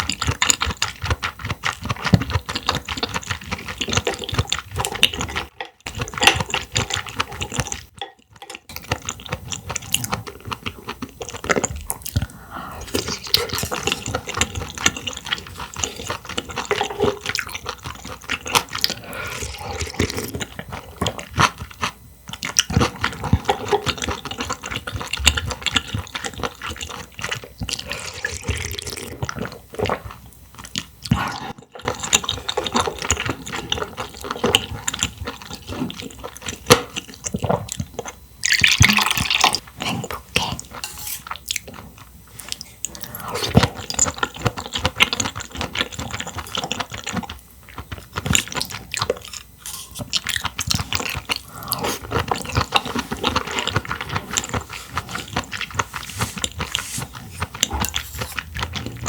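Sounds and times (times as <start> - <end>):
wet eating sounds: 0.0 - 59.0.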